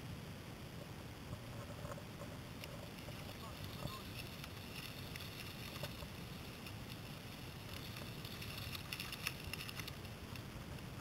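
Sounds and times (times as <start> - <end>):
bike tyres crunching over gravel: 1.4 - 11.0.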